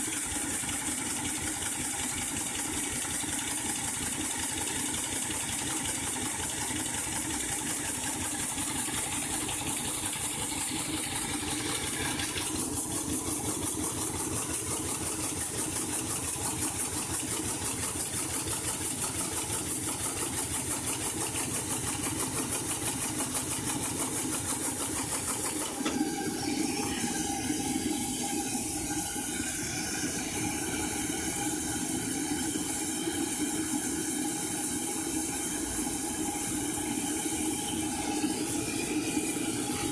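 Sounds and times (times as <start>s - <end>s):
steam hissing: 0.0s - 39.9s.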